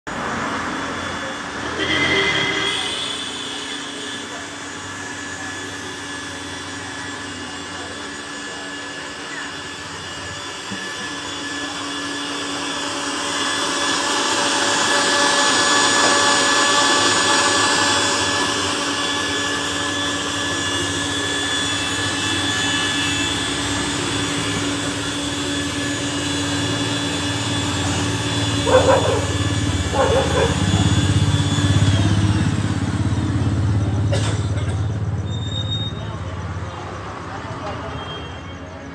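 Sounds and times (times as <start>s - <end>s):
blender motor running: 0.1s - 35.6s.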